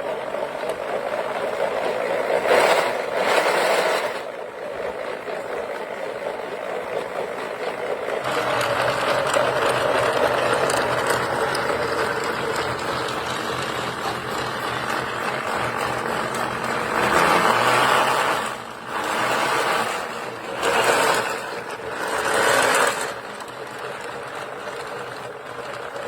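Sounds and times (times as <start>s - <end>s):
model engine mechanical rattle: 0.0s - 26.0s.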